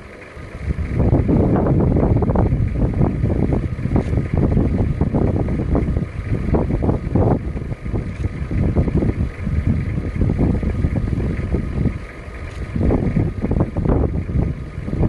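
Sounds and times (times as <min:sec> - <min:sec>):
wind buffeting the microphone: 0:00.5 - 0:15.0.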